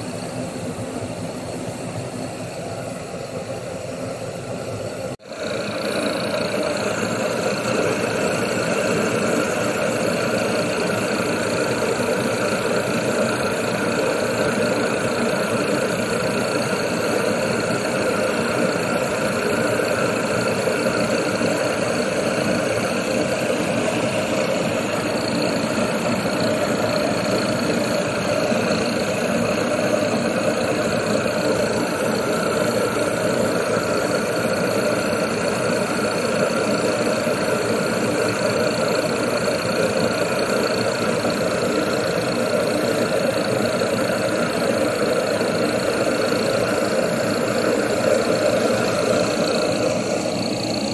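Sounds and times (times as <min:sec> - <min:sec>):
furnace burner rushing: 0:00.0 - 0:50.9.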